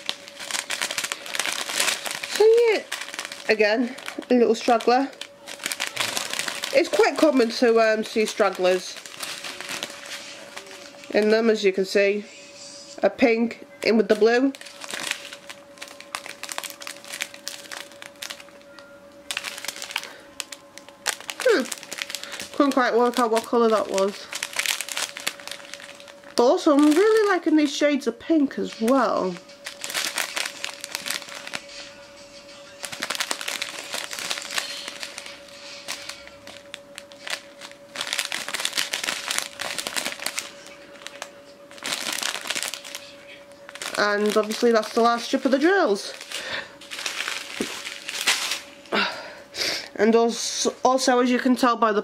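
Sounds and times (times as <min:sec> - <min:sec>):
plastic bags crinkling: 0:00.0 - 0:12.0, 0:13.8 - 0:31.9, 0:32.6 - 0:49.3
plastic bags crinkling when handled: 0:00.0 - 0:12.0, 0:13.8 - 0:49.3
steady hum: 0:00.0 - 0:52.0.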